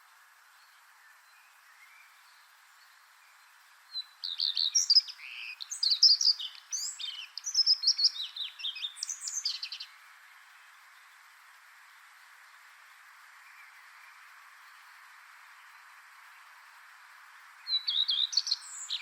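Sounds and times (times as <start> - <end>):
bird song chirps and trills: 0.4 - 19.0.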